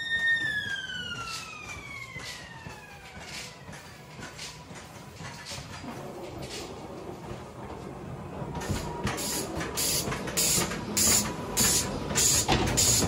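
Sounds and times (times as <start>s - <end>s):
ride car clattering on track: 0.0s - 7.8s, 8.4s - 13.0s
ride car rumbling: 0.2s - 13.0s.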